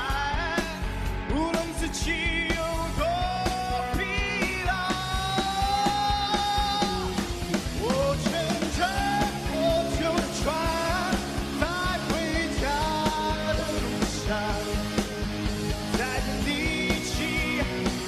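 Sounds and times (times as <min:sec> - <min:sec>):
man singing: 0:00.0 - 0:15.2, 0:15.8 - 0:18.0
electric guitars: 0:00.0 - 0:18.0
steady drum beat: 0:00.0 - 0:18.0.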